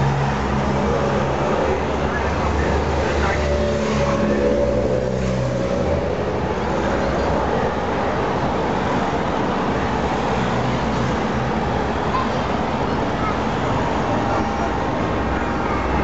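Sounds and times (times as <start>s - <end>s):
cars passing: 0.0s - 16.0s.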